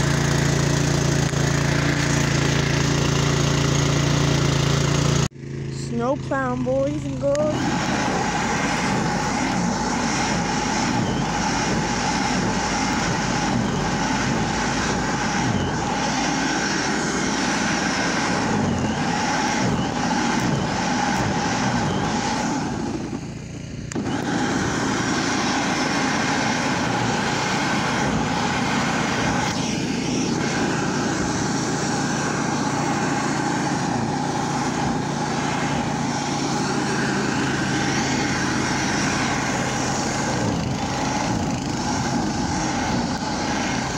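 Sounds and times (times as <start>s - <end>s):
snowblower running: 0.0s - 43.9s.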